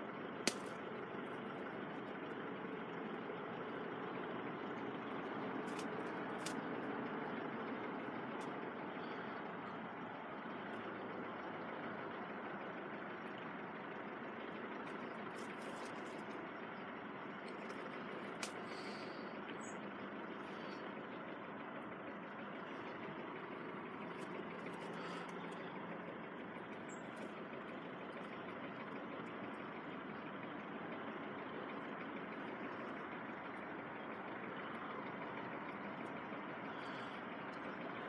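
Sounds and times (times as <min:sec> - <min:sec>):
steady vehicle noise: 0:00.0 - 0:38.0.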